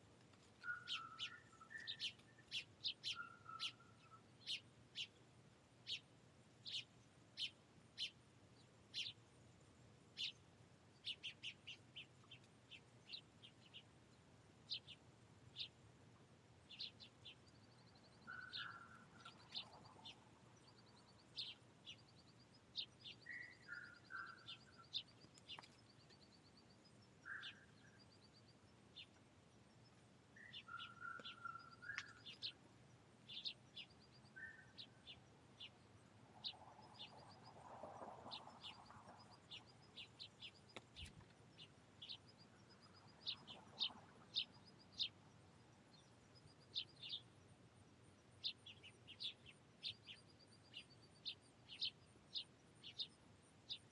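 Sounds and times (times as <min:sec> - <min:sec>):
finches chirping: 0:00.6 - 0:05.2, 0:05.8 - 0:09.2, 0:10.2 - 0:13.8, 0:16.7 - 0:37.6, 0:38.3 - 0:53.9.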